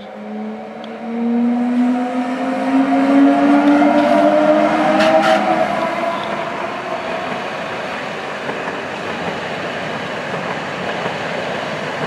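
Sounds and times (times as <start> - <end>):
electric locomotive whine: 0.0 - 12.0.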